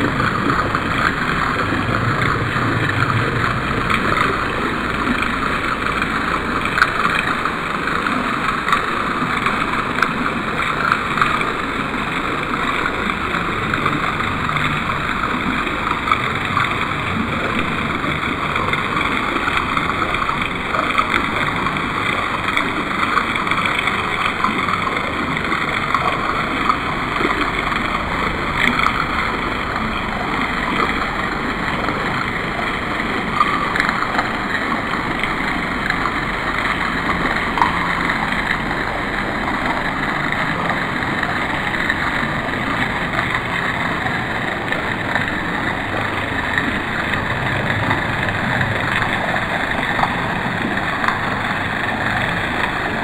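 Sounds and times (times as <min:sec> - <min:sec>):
fountain water splashing into pool: 0:00.0 - 0:53.0.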